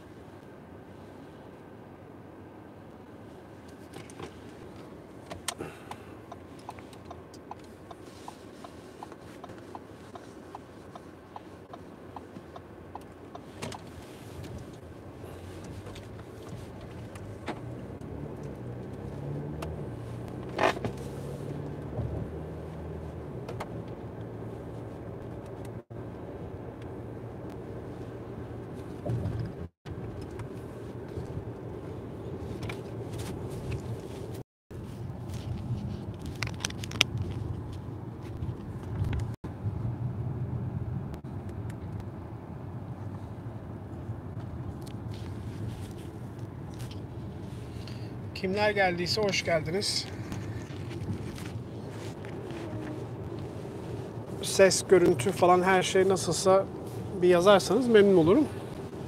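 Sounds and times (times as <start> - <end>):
engine and tyre hum: 0.0 - 59.0.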